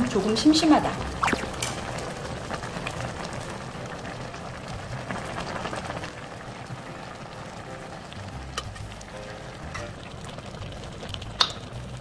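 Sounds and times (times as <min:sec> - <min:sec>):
broth bubbling in a pan: 0:00.0 - 0:12.0.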